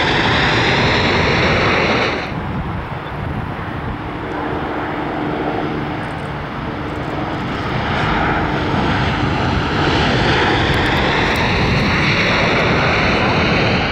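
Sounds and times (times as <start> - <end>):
jet engines reverse thrust roar: 0.0 - 13.9
rising engine whine: 0.0 - 13.9.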